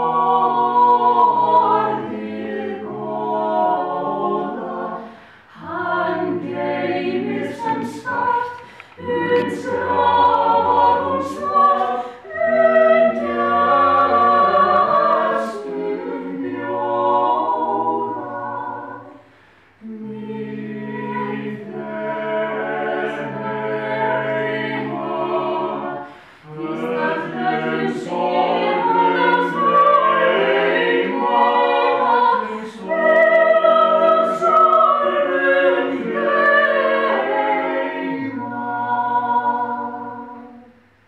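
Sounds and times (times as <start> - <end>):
vocal quartet singing a cappella: 0.0 - 41.0.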